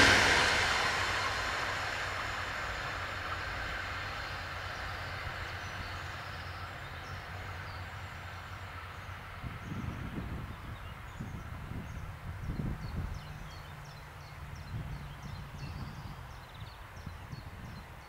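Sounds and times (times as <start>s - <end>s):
electric train rail rumble: 0.0s - 18.0s.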